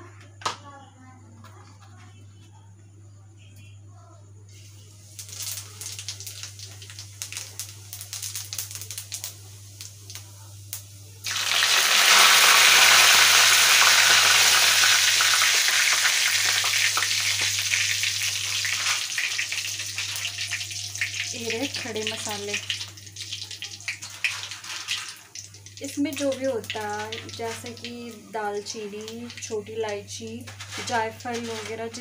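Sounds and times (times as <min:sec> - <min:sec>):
hot oil crackling: 0:04.5 - 0:32.0
potatoes sizzling in oil: 0:04.5 - 0:32.0.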